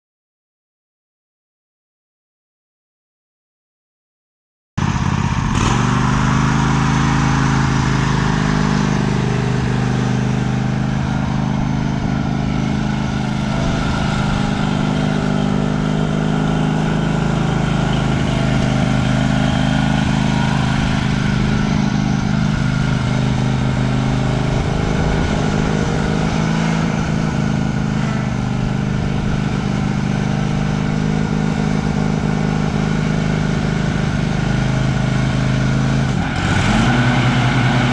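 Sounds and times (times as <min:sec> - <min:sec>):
lawn tractor engine running: 0:04.8 - 0:37.9.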